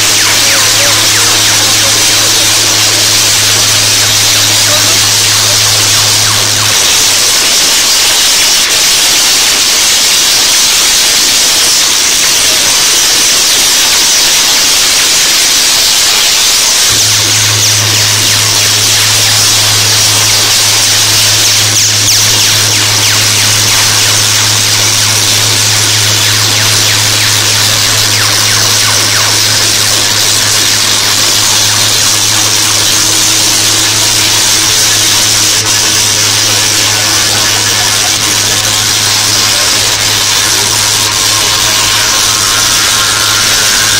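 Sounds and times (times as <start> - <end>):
low hum: 0.0 - 9.6, 16.7 - 43.9
crackling hiss of electric sparks: 0.0 - 43.9
tesla coil electric buzz: 0.0 - 43.9.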